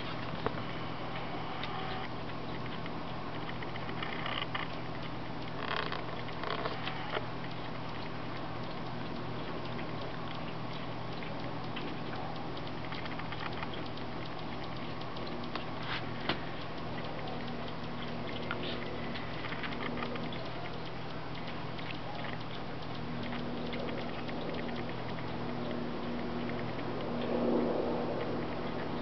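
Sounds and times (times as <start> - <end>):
raccoon lapping water: 2.0 - 29.0.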